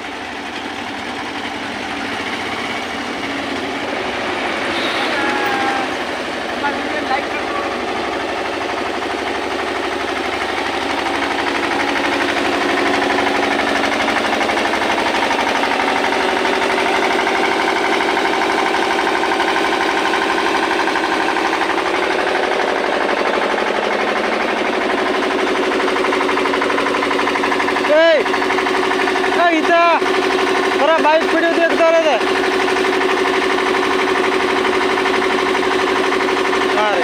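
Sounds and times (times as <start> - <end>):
engine running with clatter: 0.0 - 37.0.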